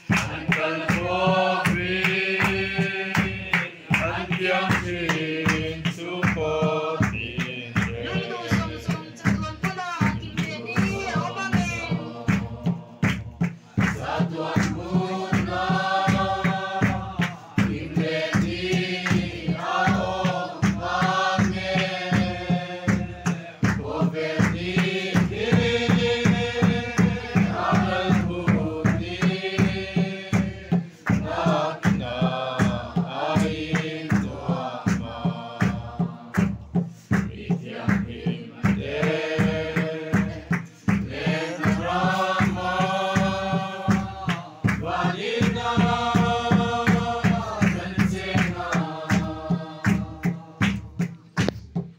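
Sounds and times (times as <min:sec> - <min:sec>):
group of people singing: 0:00.0 - 0:51.8
large drums beating: 0:00.0 - 0:51.9.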